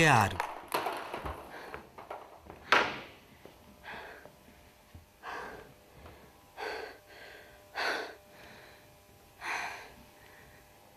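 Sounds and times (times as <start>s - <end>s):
woman breathing hard: 1.4s - 10.9s.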